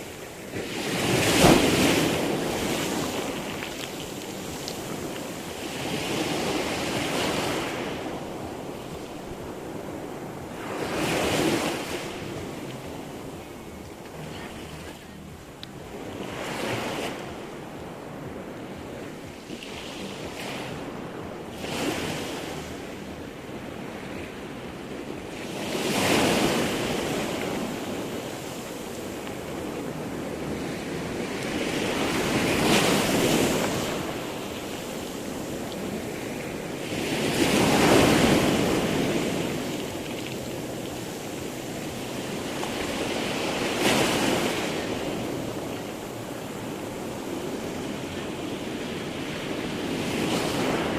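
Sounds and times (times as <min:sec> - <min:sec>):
waves breaking: 0:00.0 - 0:50.9.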